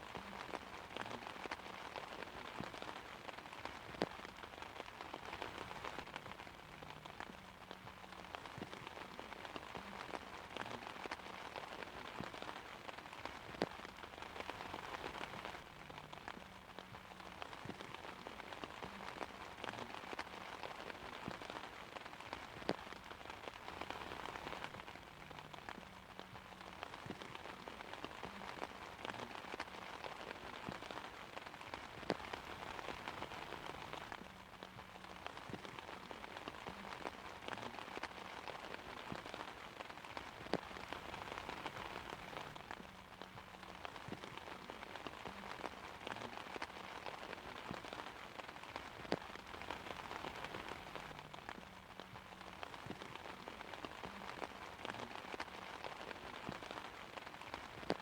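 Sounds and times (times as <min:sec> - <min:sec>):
rain pattering on an umbrella: 0:00.0 - 0:58.0.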